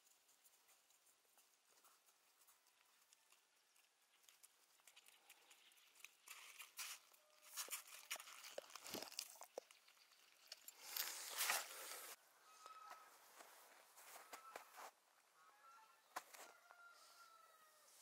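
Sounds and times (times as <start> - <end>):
crunching snow and dry leaves: 0.0 - 18.0.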